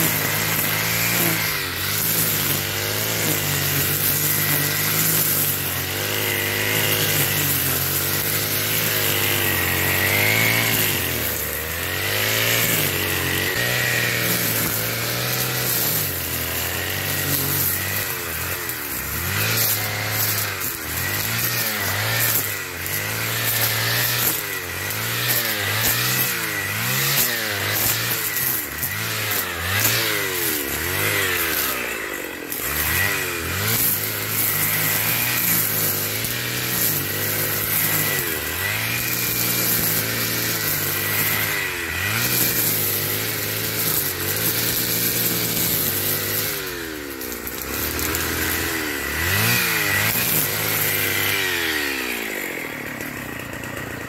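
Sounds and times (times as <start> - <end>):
brushcutter engine at high revs: 0.0 - 54.0
nylon line cutting dry grass: 0.0 - 54.0.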